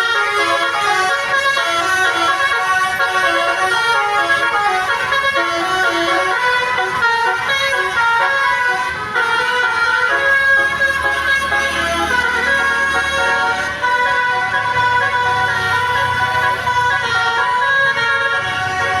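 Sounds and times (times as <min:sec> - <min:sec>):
multi-tone musical air horn: 0:00.0 - 0:19.0.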